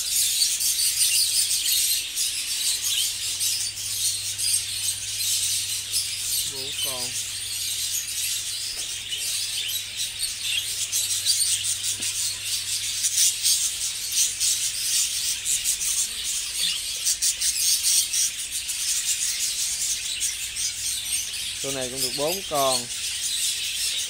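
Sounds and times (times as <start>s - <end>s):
budgerigars chattering: 0.0s - 24.0s.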